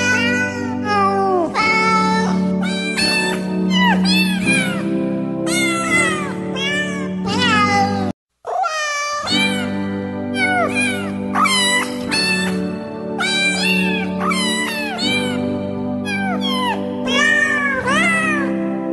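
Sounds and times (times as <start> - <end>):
background music: 0.0 - 8.2, 9.2 - 18.9
cats meowing: 1.6 - 4.9, 5.5 - 12.6, 13.2 - 18.6.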